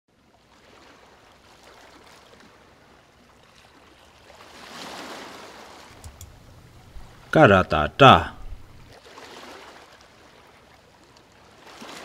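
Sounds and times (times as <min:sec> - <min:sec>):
sea waves washing on beach: 0:00.4 - 0:12.0.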